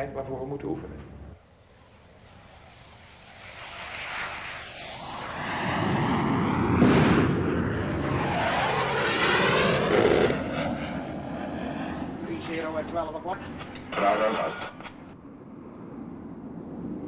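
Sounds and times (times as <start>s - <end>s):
jet aircraft flying low past: 0.9s - 17.0s.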